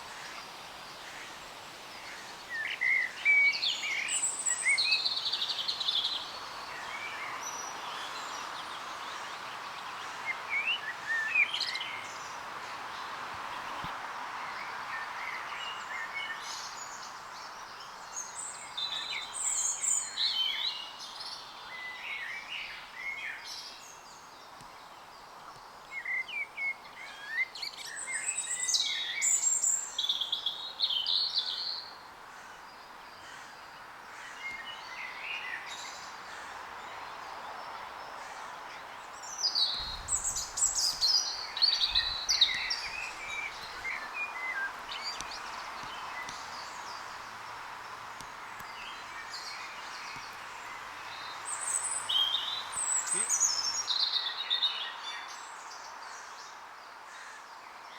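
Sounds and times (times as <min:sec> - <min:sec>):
background hiss: 0:00.0 - 0:57.9
songbirds singing: 0:00.0 - 0:57.9.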